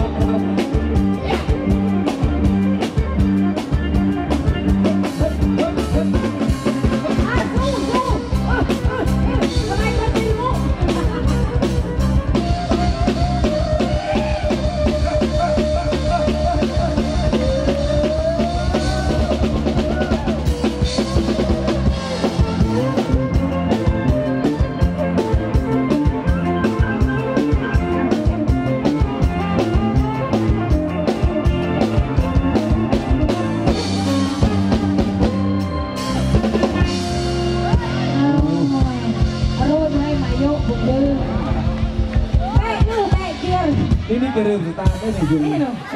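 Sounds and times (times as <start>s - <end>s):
fast drum kit beat: 0.0s - 45.7s
bass line: 0.0s - 45.9s
electric band music over a pa: 0.0s - 45.9s.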